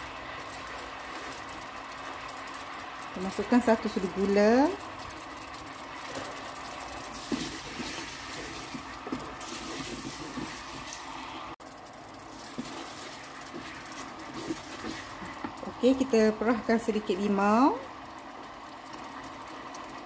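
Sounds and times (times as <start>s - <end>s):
sauce sizzling in a pot: 0.0s - 20.0s
wooden spatula stirring: 0.0s - 20.0s.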